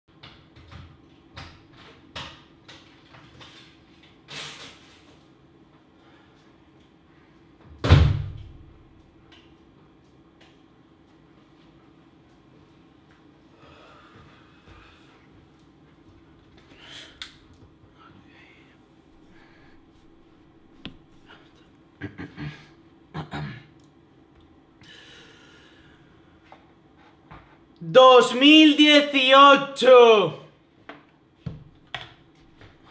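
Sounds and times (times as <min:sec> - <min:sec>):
faint steady hum: 0:04.8 - 0:32.9.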